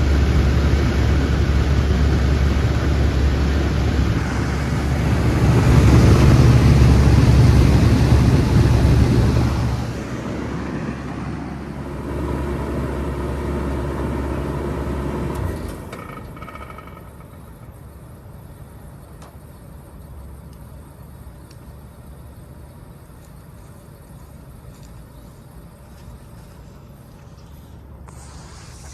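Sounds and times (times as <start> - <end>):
heat pump humming: 0.0 - 28.9.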